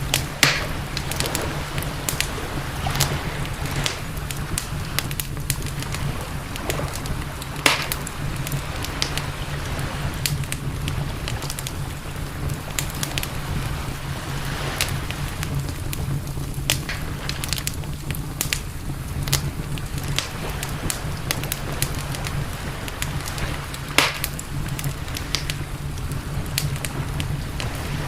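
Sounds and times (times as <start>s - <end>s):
campfire crackling and popping: 0.0s - 28.0s
steady low rumble: 0.0s - 28.0s.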